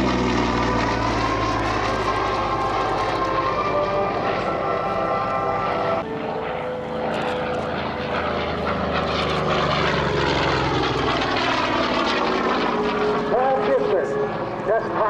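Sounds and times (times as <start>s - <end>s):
propeller plane engine flying by: 0.0s - 15.0s.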